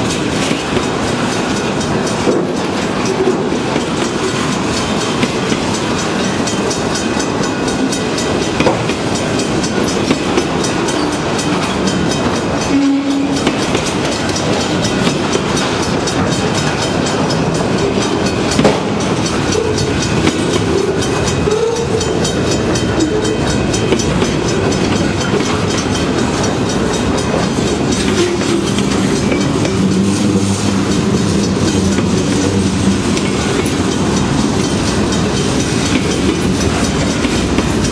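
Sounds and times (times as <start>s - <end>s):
freight train rumbling: 0.0s - 37.9s
wheels clattering over rails: 0.0s - 37.9s.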